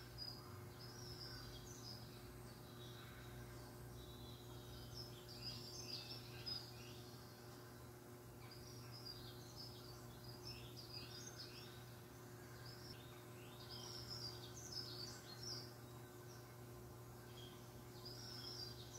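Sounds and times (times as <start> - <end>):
songbirds chirping through speakers: 0.0 - 18.9
steady low hum: 0.0 - 18.9.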